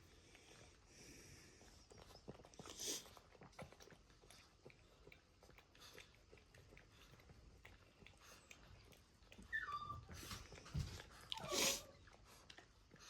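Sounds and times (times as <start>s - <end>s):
dogs licking and smacking: 1.5s - 13.0s.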